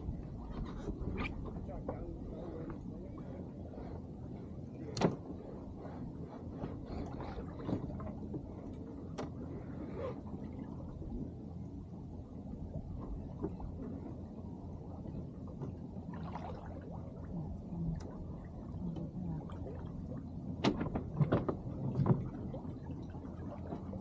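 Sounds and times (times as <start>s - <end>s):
water and wind rushing: 0.0s - 24.0s.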